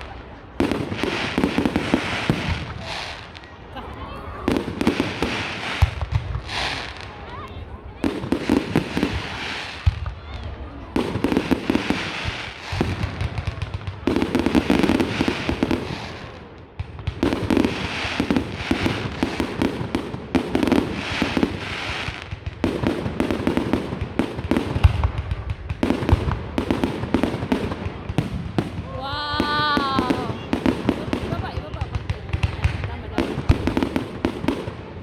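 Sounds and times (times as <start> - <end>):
deep fireworks booms: 0.0 - 3.4, 4.4 - 35.0
fireworks crackling: 0.0 - 35.0.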